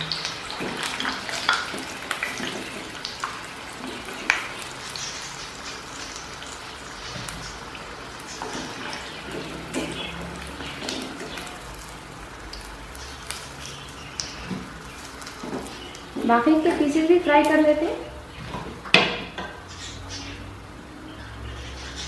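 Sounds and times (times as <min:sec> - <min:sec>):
oil sizzling and crackling: 0:00.0 - 0:22.0.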